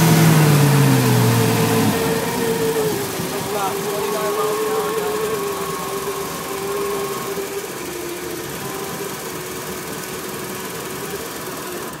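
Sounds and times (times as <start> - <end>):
boat engine running: 0.0 - 12.0
steady tone sagging in pitch: 0.0 - 12.0.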